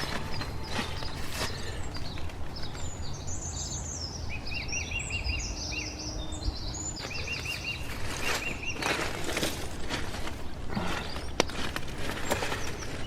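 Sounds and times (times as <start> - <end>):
low outdoor rumble: 0.0 - 13.0
songbirds chirping: 0.0 - 13.0.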